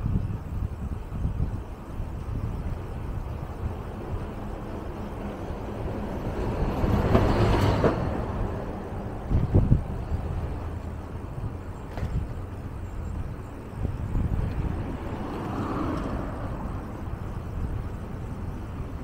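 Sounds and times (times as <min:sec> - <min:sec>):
traffic rumble: 0:00.0 - 0:19.0
car passing: 0:02.6 - 0:19.0.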